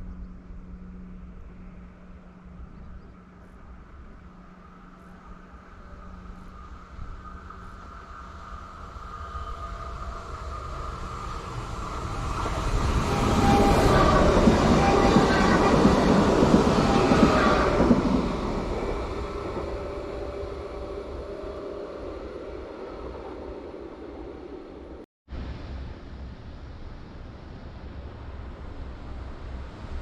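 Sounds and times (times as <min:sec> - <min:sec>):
train passing: 0:00.0 - 0:30.0.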